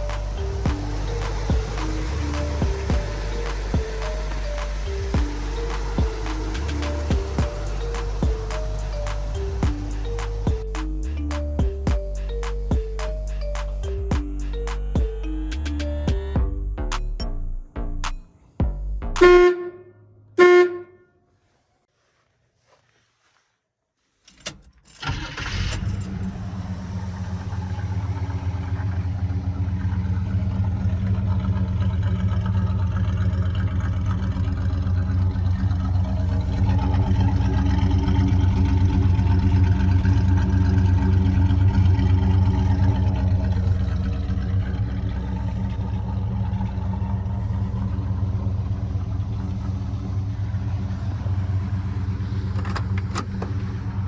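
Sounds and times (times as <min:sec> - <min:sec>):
car engine starting and idling: 0:00.0 - 0:17.2, 0:24.4 - 0:54.0.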